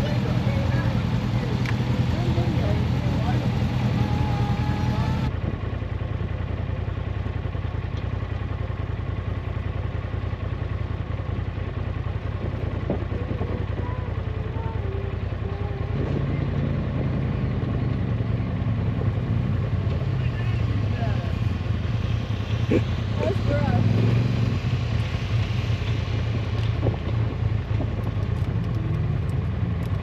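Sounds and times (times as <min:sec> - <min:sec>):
utv engine running: 0:00.0 - 0:30.0.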